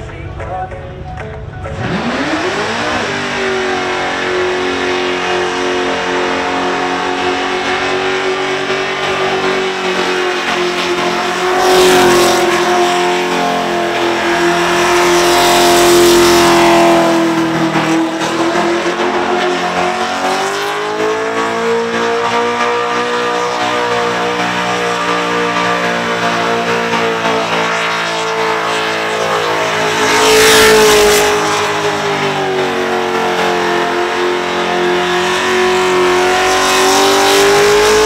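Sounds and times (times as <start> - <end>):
engine at high revs: 1.7 - 38.0.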